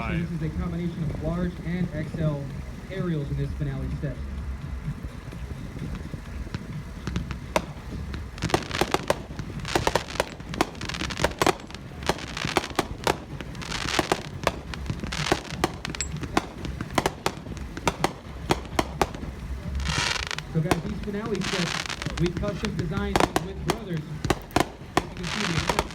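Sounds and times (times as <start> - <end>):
fireworks crackling: 0.0 - 25.9
fireworks shells bursting: 0.0 - 25.9.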